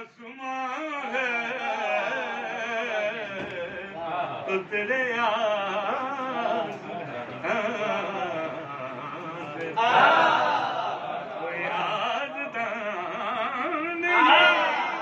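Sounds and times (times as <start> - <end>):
man singing: 0.0 - 10.0, 11.3 - 15.0.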